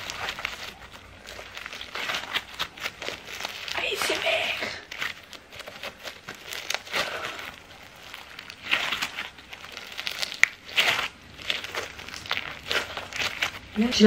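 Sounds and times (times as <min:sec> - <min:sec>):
crunchy slime crackling: 0:00.0 - 0:14.0.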